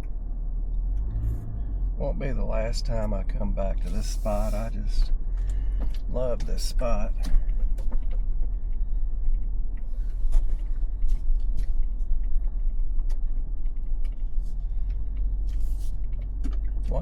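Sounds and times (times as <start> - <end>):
vehicle rumbling on dirt track: 0.0 - 17.0
creaks and rattles from car body: 0.8 - 17.0.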